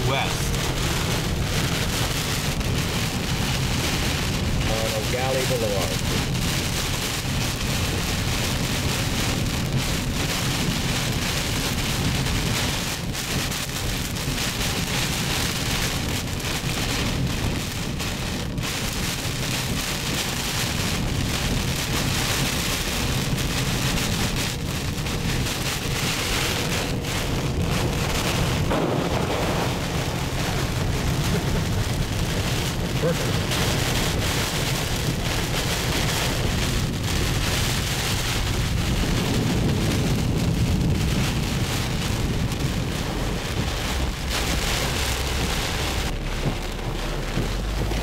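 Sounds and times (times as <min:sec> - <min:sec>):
heavy rain on car roof: 0:00.0 - 0:48.0.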